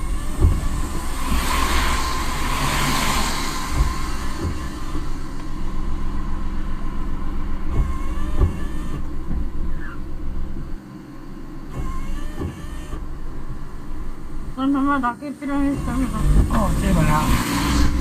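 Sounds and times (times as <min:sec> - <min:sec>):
short thumps: 0:00.0 - 0:14.6
tyre and engine rumble: 0:00.0 - 0:18.0.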